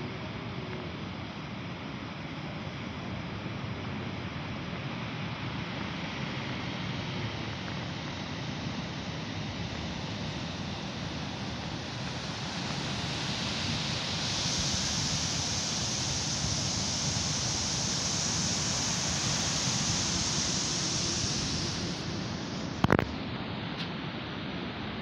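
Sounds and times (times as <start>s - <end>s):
waves washing up a beach: 0.0s - 25.0s.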